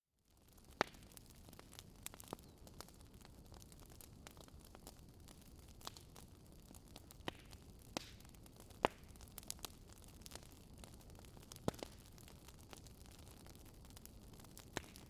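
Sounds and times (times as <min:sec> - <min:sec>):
campfire crackling: 0:00.3 - 0:15.0.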